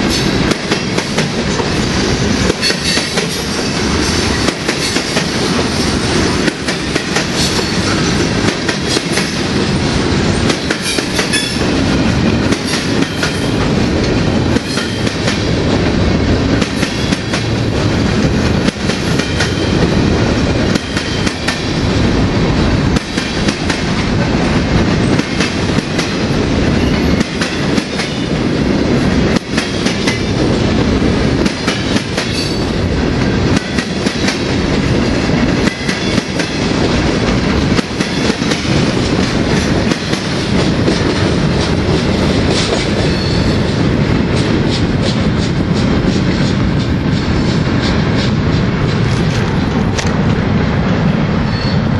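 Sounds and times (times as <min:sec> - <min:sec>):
freight cars rumbling: 0:00.0 - 0:51.9.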